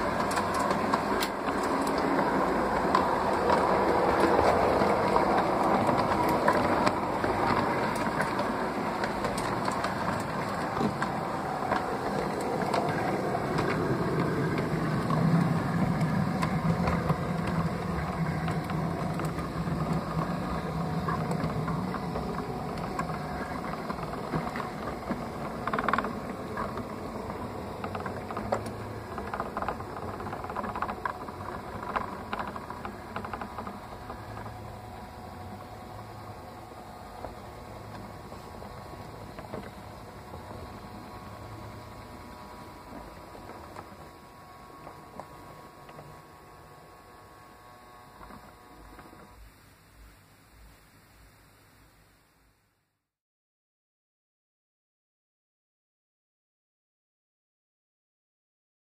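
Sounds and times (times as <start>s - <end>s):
wheels clicking over rails: 0.0s - 49.5s
model train motor hum: 0.0s - 50.5s.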